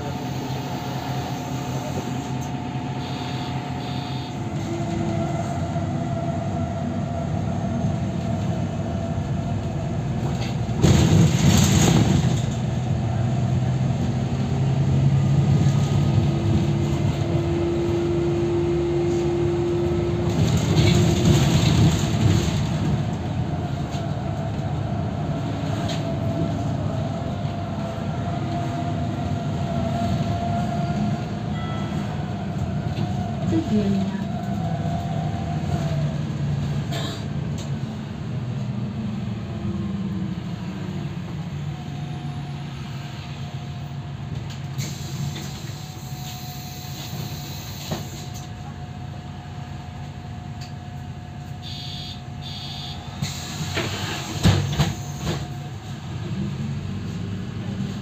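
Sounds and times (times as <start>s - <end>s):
bus engine under load: 0.0s - 58.0s.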